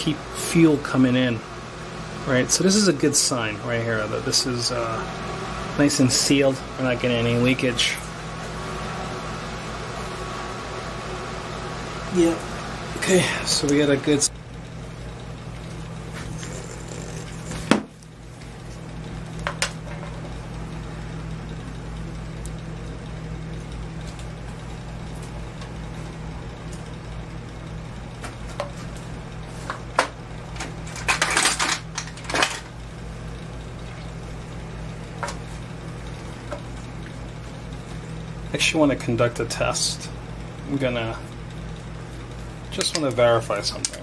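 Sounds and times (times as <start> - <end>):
low electrical hum: 0.0 - 44.0.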